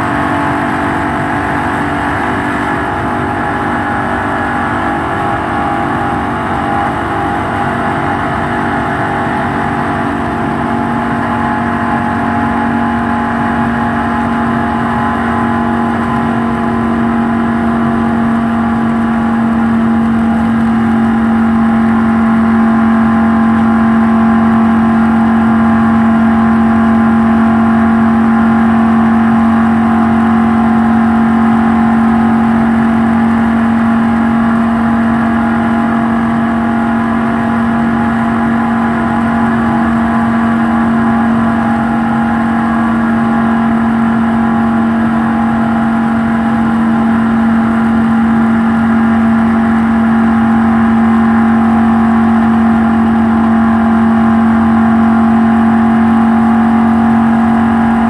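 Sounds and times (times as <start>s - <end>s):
race car engine at full throttle: 0.0s - 58.0s.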